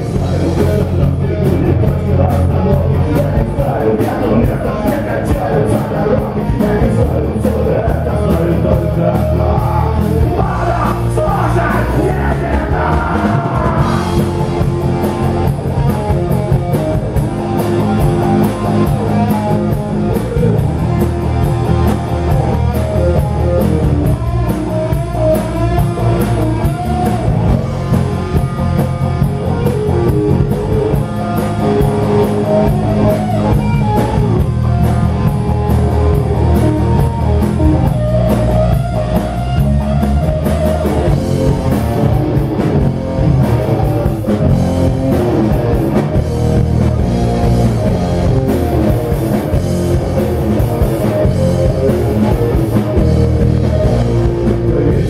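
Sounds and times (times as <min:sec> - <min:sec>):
bass guitar: 0:00.0 - 0:55.0
drum kit: 0:00.0 - 0:55.0
electric guitar lead lines: 0:00.0 - 0:55.0.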